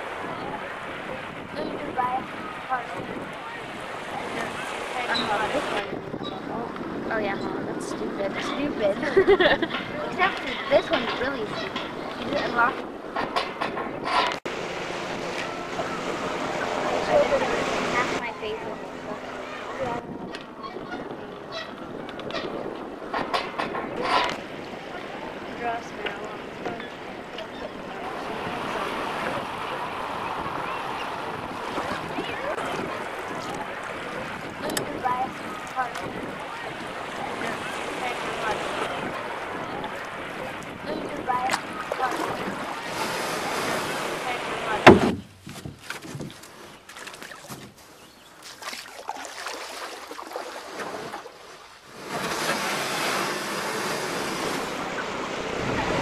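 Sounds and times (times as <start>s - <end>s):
wind buffeting microphone: 0.0s - 46.9s, 52.0s - 56.0s
rushing water: 0.0s - 56.0s
sea waves: 0.0s - 56.0s.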